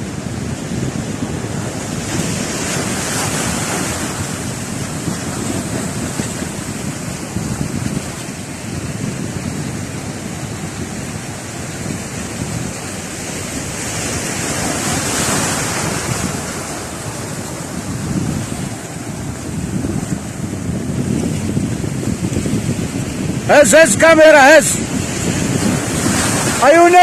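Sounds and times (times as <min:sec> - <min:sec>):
sea surf breaking on shore: 0:00.0 - 0:27.0
wind rumbling on microphone: 0:00.0 - 0:27.0.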